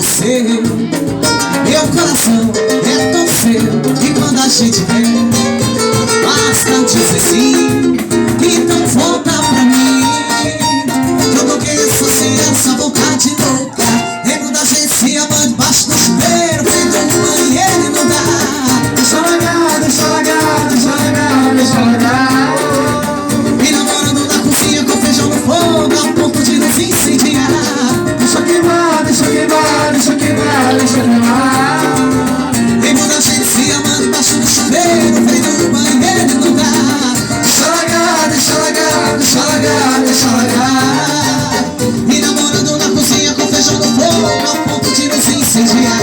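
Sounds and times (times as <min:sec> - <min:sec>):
plucked guitar: 0:00.0 - 0:46.0
shaker rhythm: 0:00.0 - 0:46.0.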